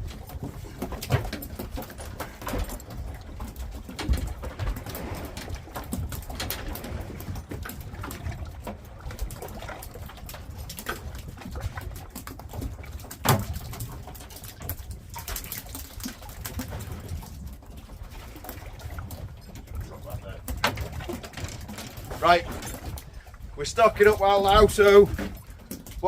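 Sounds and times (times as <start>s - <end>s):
wind and sea rumble: 0.0s - 26.0s.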